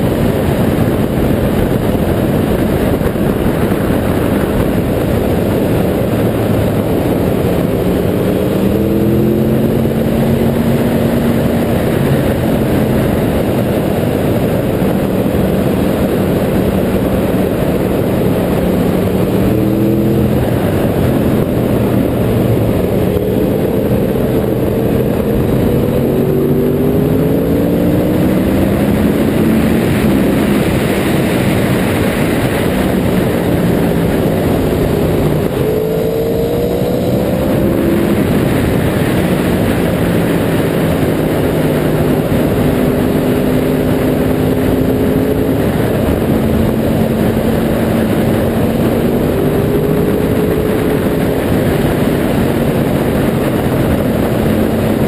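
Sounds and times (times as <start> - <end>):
motorcycle engine revving: 0.0 - 55.0
wind rush on microphone: 0.0 - 55.0.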